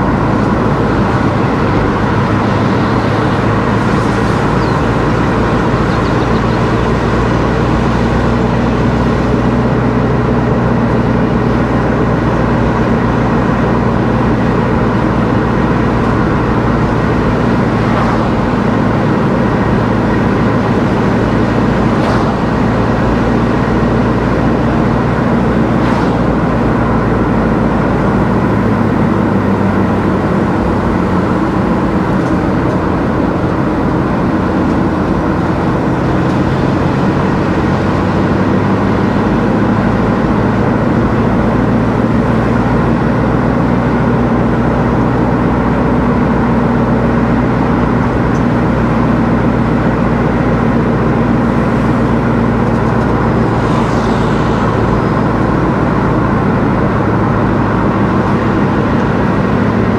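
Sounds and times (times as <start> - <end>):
car driving: 0.0 - 59.9.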